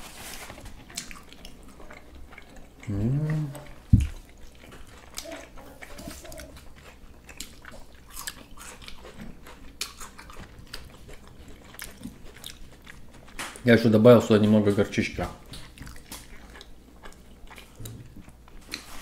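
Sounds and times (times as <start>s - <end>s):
person chewing and biting: 0.1s - 13.7s, 15.3s - 19.0s.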